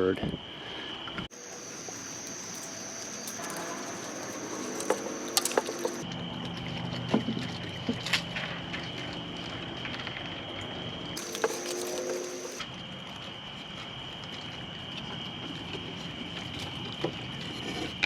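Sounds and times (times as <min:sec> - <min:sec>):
night insects trilling: 0:00.0 - 0:18.0
raccoons rustling with dog toys: 0:01.3 - 0:18.0.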